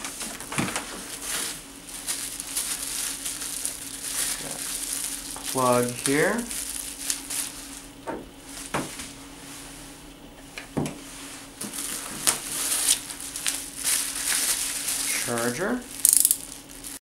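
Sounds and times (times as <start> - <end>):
bubble wrap crinkling: 0.0 - 8.8, 11.5 - 17.0.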